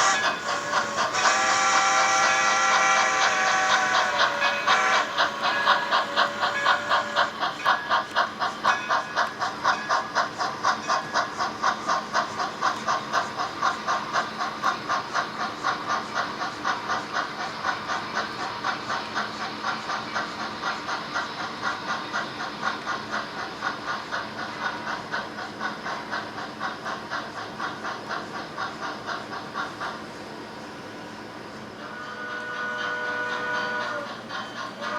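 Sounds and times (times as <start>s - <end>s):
model steam locomotive chuffing: 0.0s - 34.9s.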